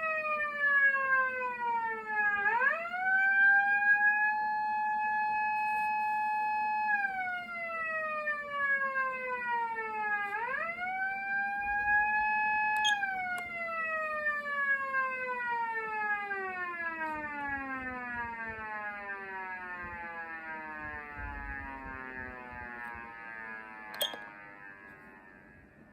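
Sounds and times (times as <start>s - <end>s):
police car siren: 0.0s - 25.9s.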